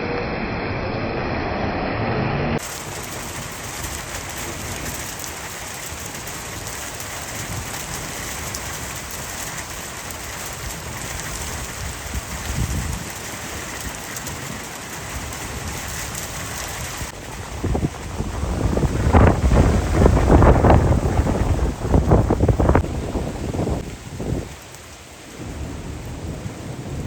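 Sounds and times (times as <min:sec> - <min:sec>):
heavy rain falling: 0:02.6 - 0:27.0.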